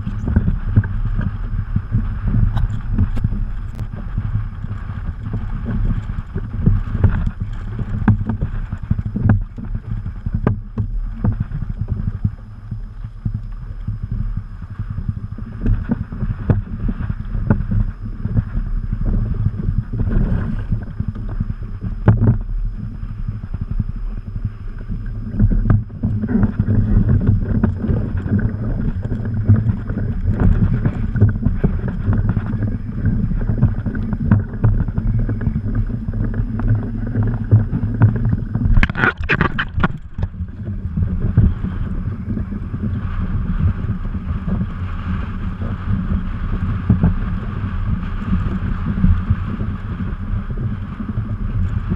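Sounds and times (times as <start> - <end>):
water slapping against a hull: 0.0 - 22.5, 24.4 - 51.7
wind buffeting the microphone: 0.0 - 51.9.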